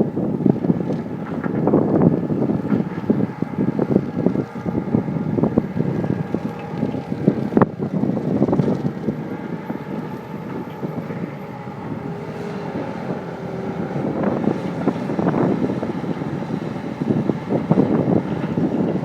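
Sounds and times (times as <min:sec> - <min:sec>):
diesel engine running under load: 0:00.0 - 0:19.0
wind buffeting microphone: 0:00.0 - 0:19.0.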